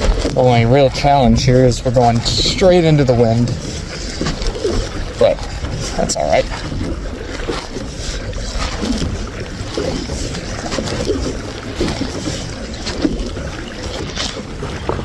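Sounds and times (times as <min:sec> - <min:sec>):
water splashing from paddling: 0:00.0 - 0:15.0
wind buffeting microphone: 0:00.0 - 0:15.0.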